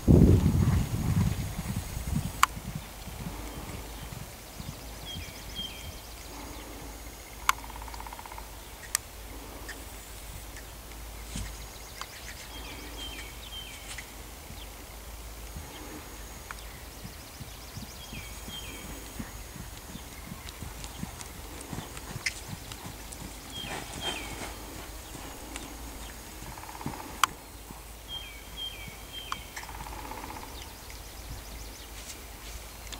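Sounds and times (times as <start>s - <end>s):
wind rumbling on microphone: 0.0s - 32.9s
small birds chirping: 2.4s - 32.9s.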